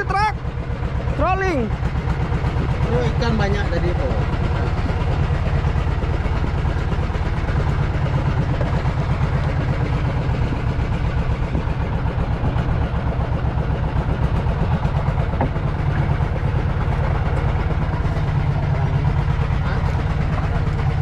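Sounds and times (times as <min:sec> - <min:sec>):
boat engine low rumble: 0:00.0 - 0:21.0.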